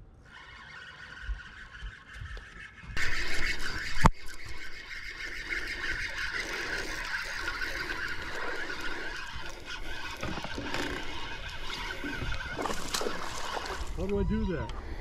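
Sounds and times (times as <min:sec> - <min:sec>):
spinning reel being cranked: 0:00.2 - 0:14.1.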